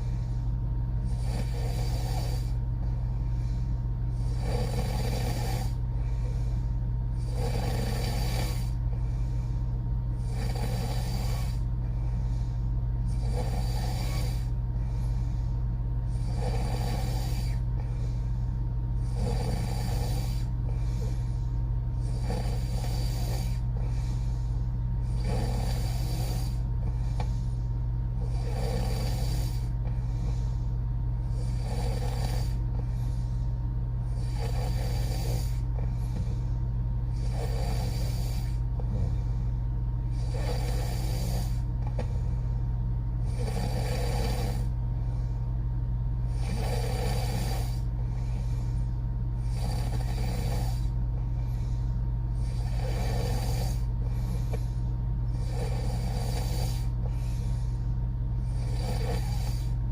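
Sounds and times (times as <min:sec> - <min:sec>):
woman snoring: 0:00.0 - 0:00.2, 0:01.0 - 0:03.0, 0:03.6 - 0:12.2, 0:13.0 - 0:15.2, 0:16.0 - 0:33.4, 0:34.0 - 0:36.3, 0:37.0 - 0:42.5, 0:43.2 - 0:45.0, 0:46.2 - 0:59.9
steady low hum: 0:00.0 - 0:59.9.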